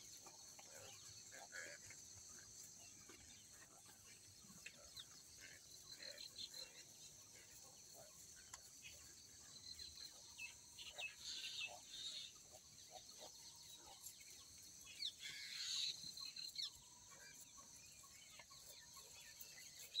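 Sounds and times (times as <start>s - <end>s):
birds chirping and clucking: 0.0s - 20.0s.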